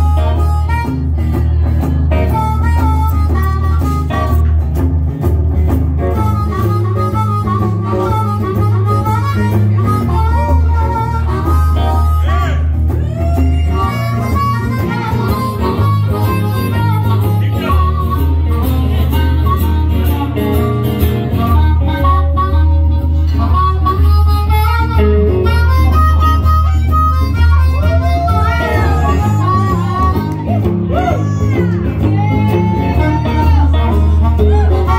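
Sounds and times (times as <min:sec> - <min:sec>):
blues harmonica solo: 0:00.0 - 0:34.9
guitar accompaniment: 0:00.0 - 0:34.9.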